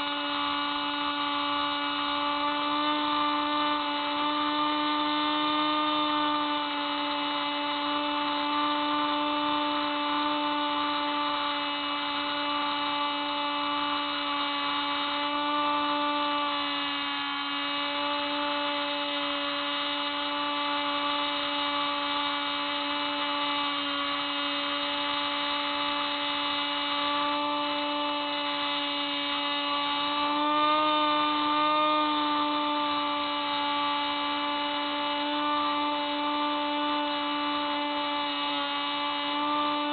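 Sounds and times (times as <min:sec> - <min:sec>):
rc plane motor whining: 0:00.0 - 0:39.9.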